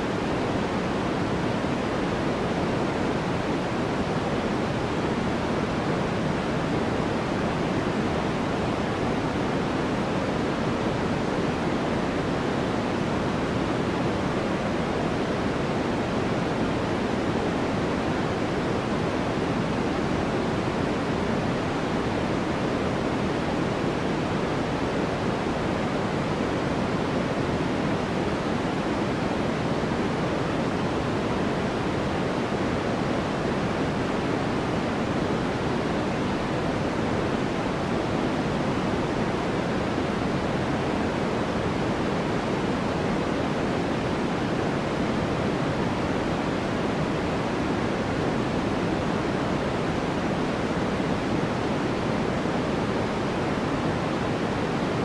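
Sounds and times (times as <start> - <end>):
low-pitched steady noise hiss: 0.0 - 55.0.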